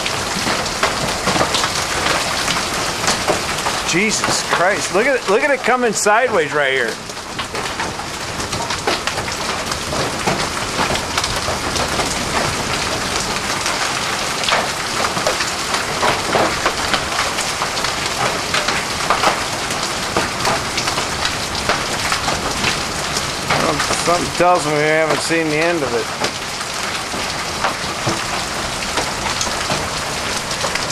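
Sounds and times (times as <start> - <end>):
hailstones striking surfaces: 0.0 - 30.9
heavy rain hissing: 0.0 - 30.9.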